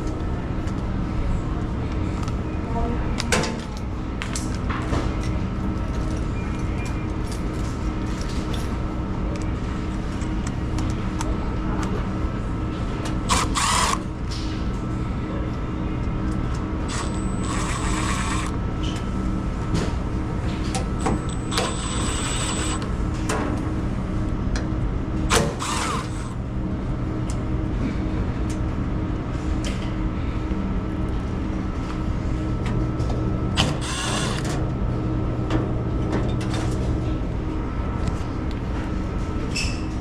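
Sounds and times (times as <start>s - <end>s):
machinery hum with high whine: 0.0s - 40.0s.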